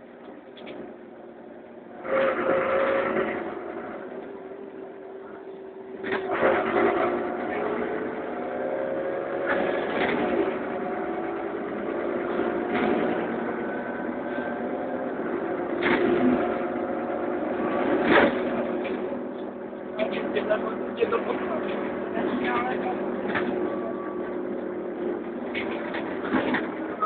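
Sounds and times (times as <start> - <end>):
bus engine hum: 0.0 - 27.0
road noise: 0.0 - 27.0.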